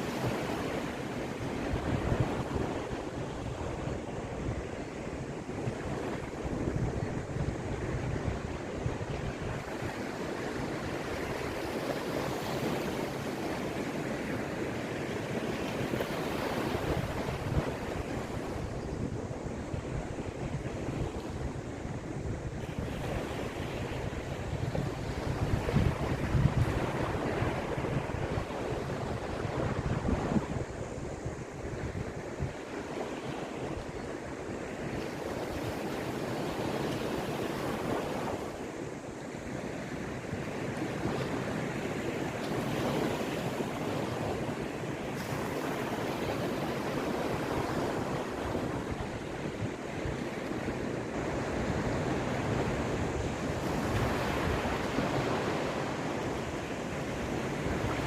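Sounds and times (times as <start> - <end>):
waves washing onto shore: 0.0 - 58.0
wind buffeting microphone: 0.0 - 58.0.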